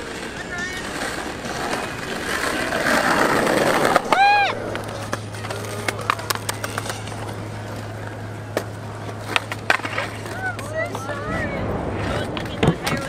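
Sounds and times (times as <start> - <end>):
skateboard wheels rolling on asphalt: 0.0 - 13.0
skateboards clacking on ground: 0.0 - 13.0.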